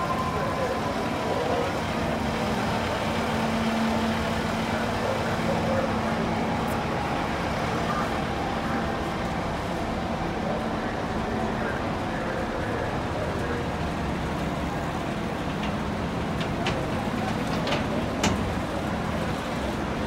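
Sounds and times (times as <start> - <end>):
city traffic noise: 0.0 - 20.0
diesel engine humming: 0.0 - 20.0.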